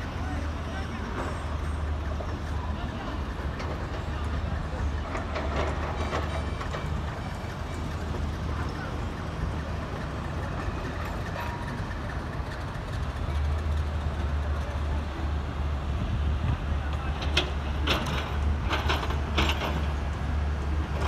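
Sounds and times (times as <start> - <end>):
low engine drone of traffic: 0.0 - 21.0.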